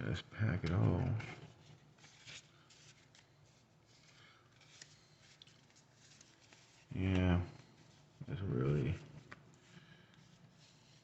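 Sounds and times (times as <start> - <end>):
cards rustling and tapping: 0.6 - 11.0.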